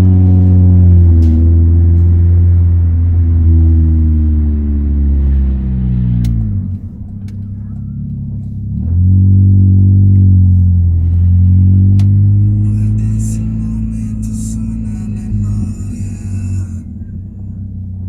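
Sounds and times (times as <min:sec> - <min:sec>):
car exhaust revving: 0:00.0 - 0:18.0.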